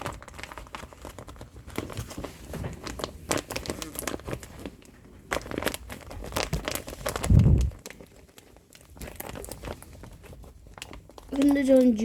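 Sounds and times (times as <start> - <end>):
rustling and crinkling handling: 0.0 - 12.0.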